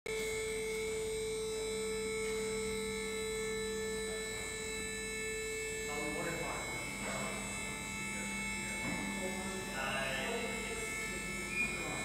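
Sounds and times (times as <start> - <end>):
electric motor and pump whine: 0.1 - 12.0
low hum: 0.1 - 12.0.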